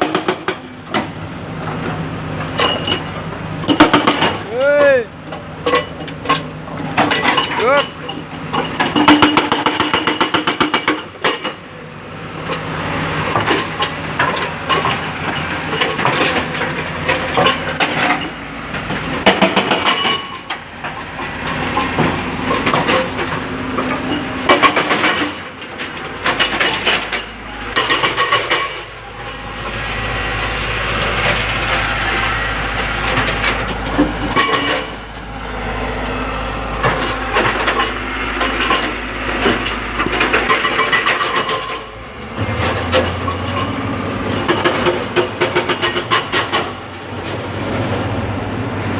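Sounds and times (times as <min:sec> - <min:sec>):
metallic clattering and clanking: 0:00.0 - 0:11.7, 0:12.4 - 0:35.3, 0:36.8 - 0:47.5
excavator diesel engine running: 0:00.0 - 0:48.9.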